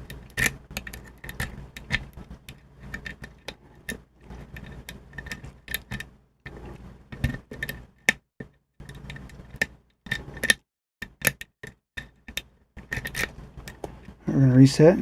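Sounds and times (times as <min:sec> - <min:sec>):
lock pick scraping: 0:00.0 - 0:14.1.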